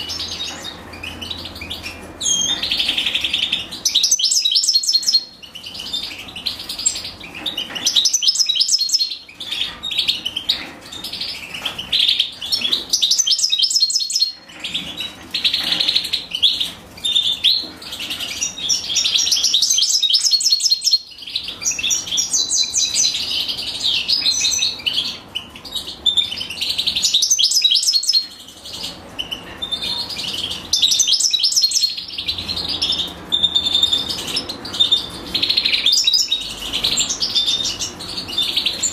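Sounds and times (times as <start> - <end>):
nestlings chirping: 0.0 - 38.9.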